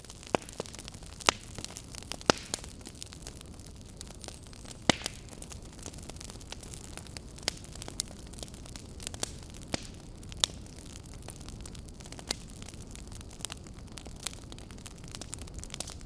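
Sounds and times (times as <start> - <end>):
campfire crackling and popping: 0.0 - 16.0
low rumble of flames: 0.0 - 16.0.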